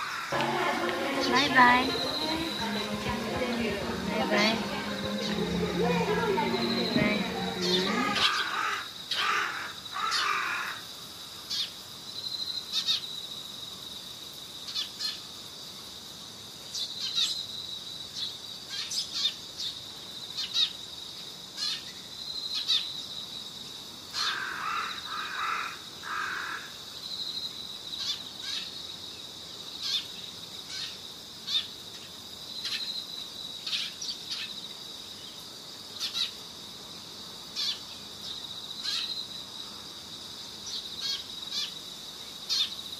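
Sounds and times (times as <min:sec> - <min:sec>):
insect trill: 0:07.1 - 0:42.9.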